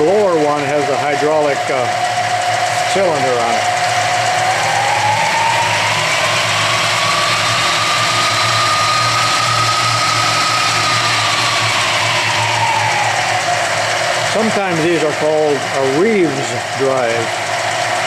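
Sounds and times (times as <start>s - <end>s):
belt drive whine: 0.0s - 18.0s
mill motor hum: 0.0s - 18.0s.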